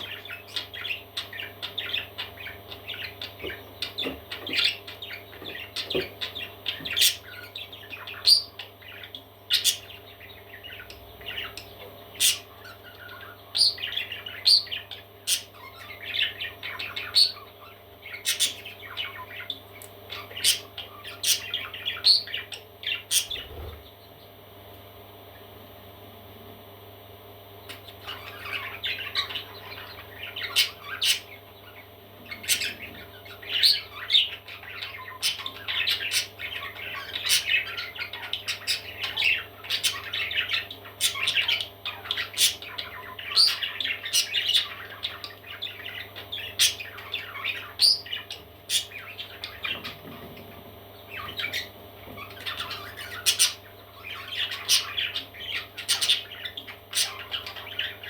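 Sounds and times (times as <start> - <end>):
parrot chicks squawking: 0.0 - 24.3, 27.6 - 58.0
steady low hum: 0.0 - 58.0.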